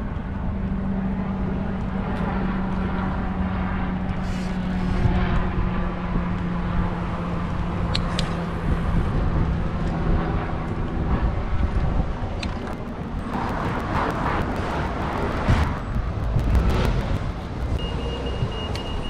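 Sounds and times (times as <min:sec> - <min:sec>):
traffic engine hum: 0:00.0 - 0:19.0
wind rumble on microphone: 0:00.0 - 0:19.0
vehicle passing: 0:00.7 - 0:19.0.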